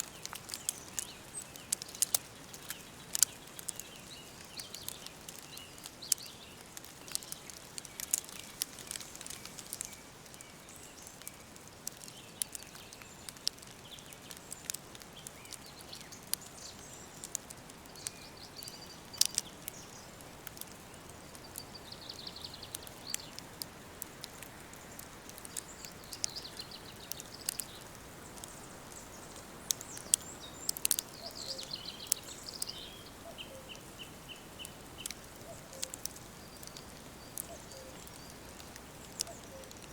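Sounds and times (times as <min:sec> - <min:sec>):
birds singing and chirping: 0:00.0 - 0:23.6, 0:24.3 - 0:39.9
sharp clicks and crackles: 0:00.0 - 0:32.8, 0:34.6 - 0:39.9
soft steady hiss: 0:00.0 - 0:39.9.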